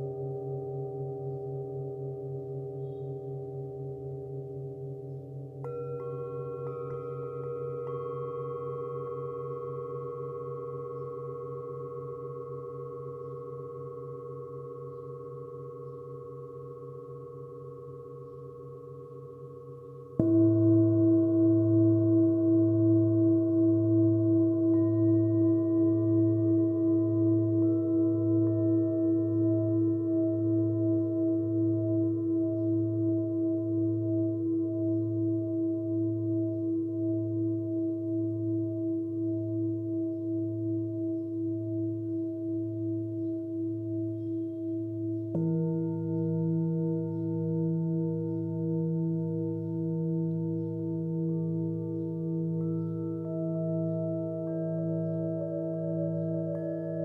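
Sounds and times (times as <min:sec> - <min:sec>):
singing bowl ringing: 0:00.0 - 0:57.0.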